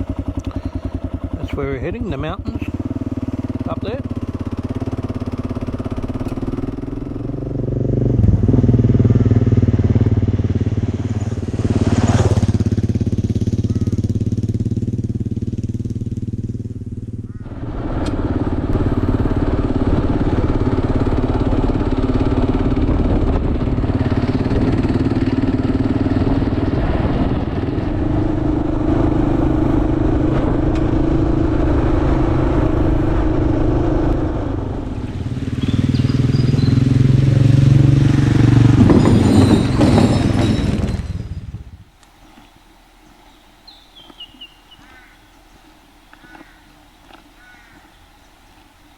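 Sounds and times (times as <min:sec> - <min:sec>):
motorcycle engine running: 0:00.0 - 0:42.4, 0:43.3 - 0:48.9.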